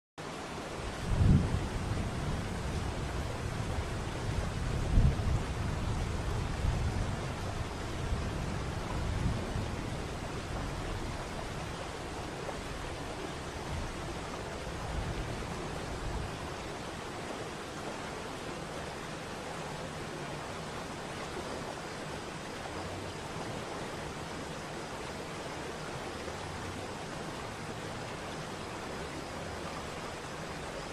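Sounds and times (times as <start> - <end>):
waterfall rushing: 6.1 - 30.9.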